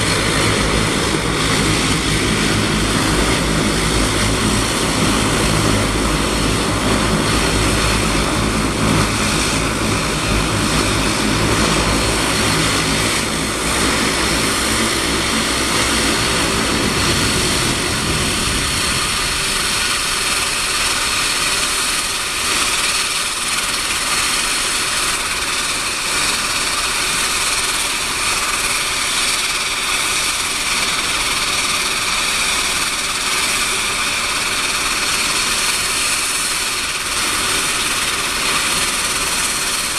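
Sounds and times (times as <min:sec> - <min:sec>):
low propeller drone: 0:00.0 - 0:39.9
turbine whine: 0:00.0 - 0:39.9.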